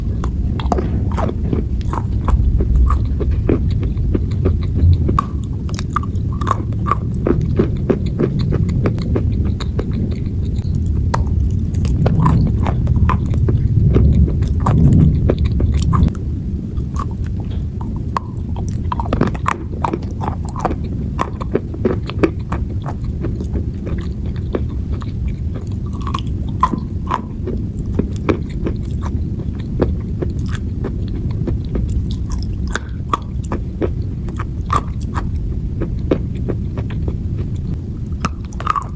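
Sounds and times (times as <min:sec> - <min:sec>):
person chewing dry clay: 0:00.0 - 0:38.9.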